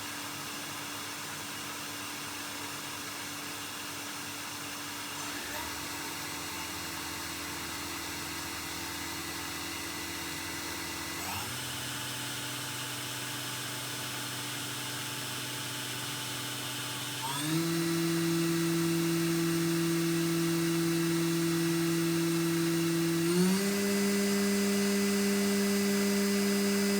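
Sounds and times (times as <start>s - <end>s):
lathe spindle whining: 5.2s - 26.9s.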